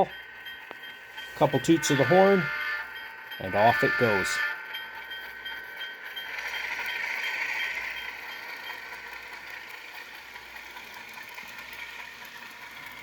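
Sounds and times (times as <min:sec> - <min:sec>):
locomotive bell ringing: 0:00.0 - 0:13.0
model locomotive diesel engine sound: 0:00.0 - 0:13.0.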